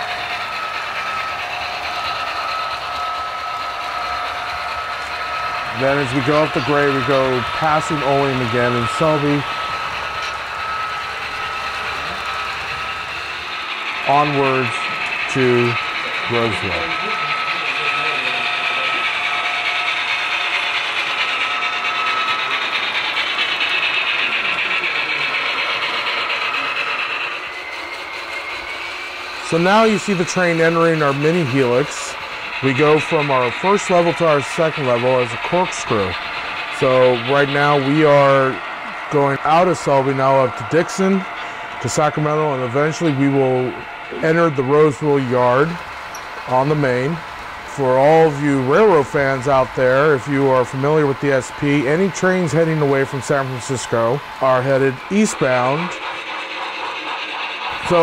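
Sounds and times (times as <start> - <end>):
model train motors whirring: 0.0 - 58.0.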